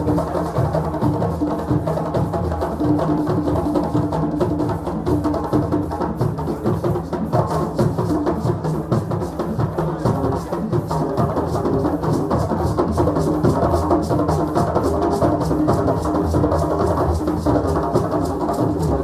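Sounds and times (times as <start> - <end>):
drums playing fast rhythm: 0.0 - 19.0.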